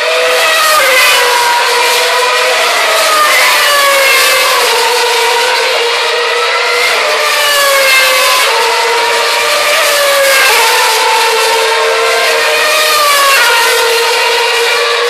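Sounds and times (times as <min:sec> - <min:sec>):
race car passing close: 0:00.0 - 0:15.0
racing car engines screaming: 0:00.0 - 0:15.0.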